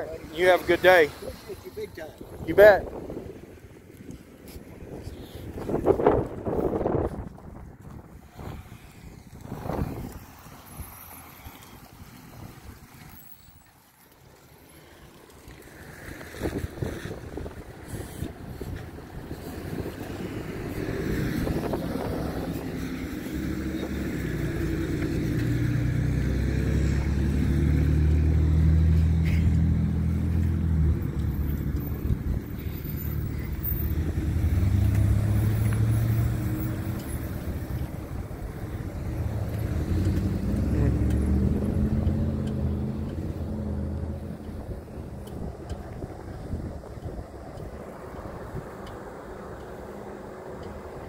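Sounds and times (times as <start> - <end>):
vehicles passing: 0.0 - 51.0.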